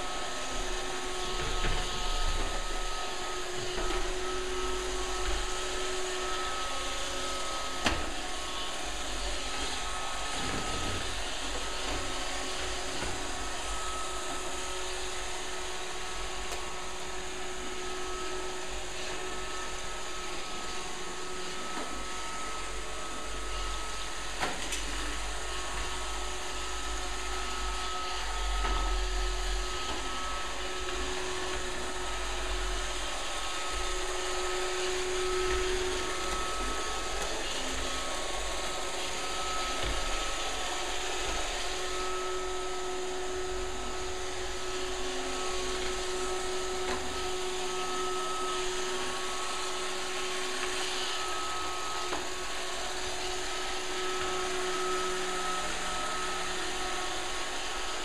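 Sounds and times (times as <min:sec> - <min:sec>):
robot vacuum cleaner whirring: 0:00.0 - 0:58.0
thin motor whine: 0:00.0 - 0:58.0.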